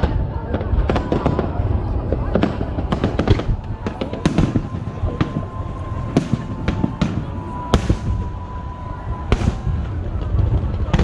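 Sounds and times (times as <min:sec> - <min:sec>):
low rumble of explosions: 0:00.0 - 0:11.0.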